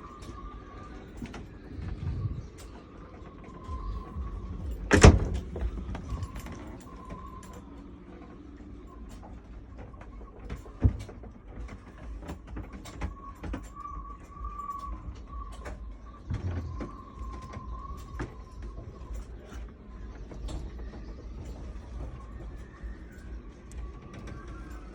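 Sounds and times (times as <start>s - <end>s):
steady low wind rumble: 0.0s - 24.9s
wind whistling in rigging: 0.0s - 24.9s.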